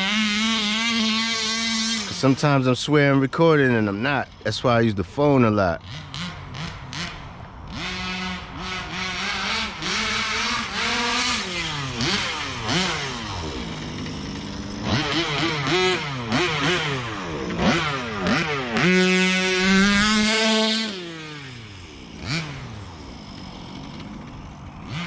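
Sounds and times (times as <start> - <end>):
rc buggy engine revving: 0.0 - 25.0.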